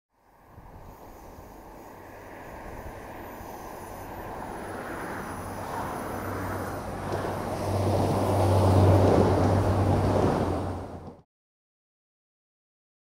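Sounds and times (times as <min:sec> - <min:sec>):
diesel train approaching: 0:00.2 - 0:11.2.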